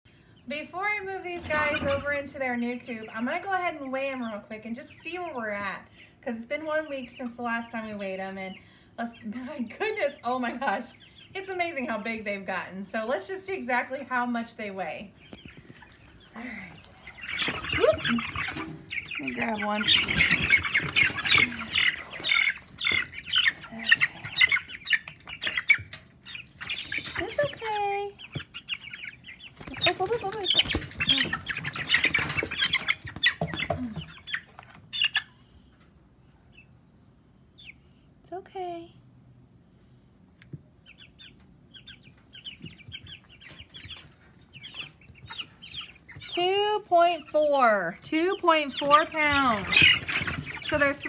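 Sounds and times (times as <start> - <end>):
chicks peeping and squawking: 0.3 - 38.2, 39.5 - 51.0.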